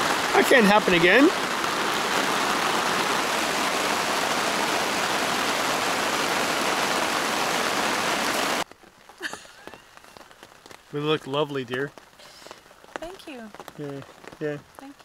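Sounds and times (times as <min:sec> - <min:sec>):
heavy rain on a tarp: 0:00.0 - 0:15.0.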